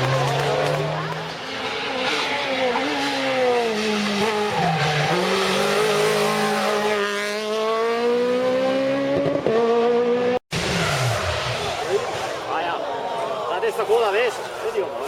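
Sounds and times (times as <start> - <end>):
rally car engine at high revs: 0.0 - 12.5.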